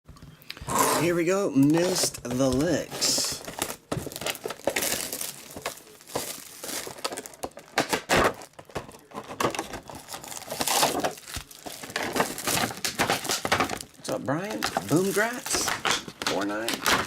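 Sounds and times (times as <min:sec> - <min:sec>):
foil wrappers crinkling and tearing: 0:01.0 - 0:17.0.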